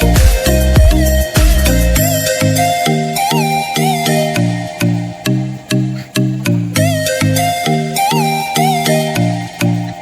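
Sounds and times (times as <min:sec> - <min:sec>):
bouncy pitched notes: 0:00.0 - 0:10.0.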